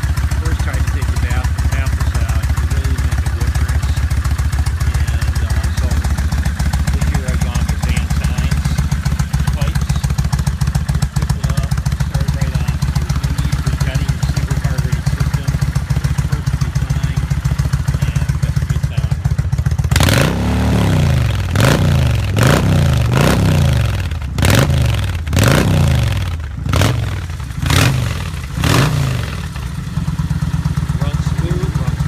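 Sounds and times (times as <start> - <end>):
motorcycle engine idling: 0.0 - 32.0
motorcycle engine revving: 0.0 - 32.0.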